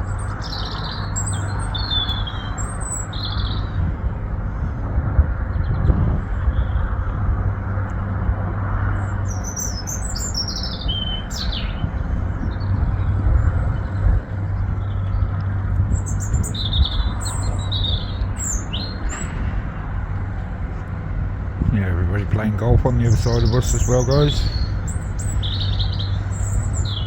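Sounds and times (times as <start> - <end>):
birds chirping: 0.0 - 4.1, 5.5 - 27.0
boat engine droning: 0.0 - 27.0.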